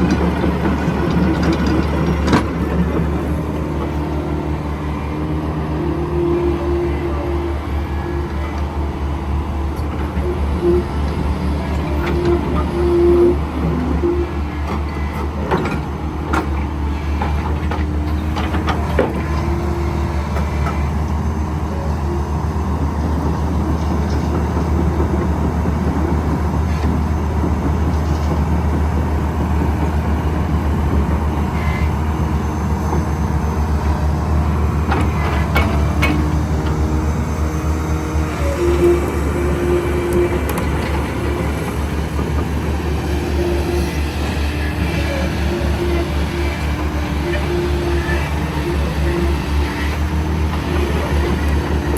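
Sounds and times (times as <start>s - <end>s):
excavator diesel engine: 0.0s - 51.9s
hydraulics whine: 0.0s - 51.9s.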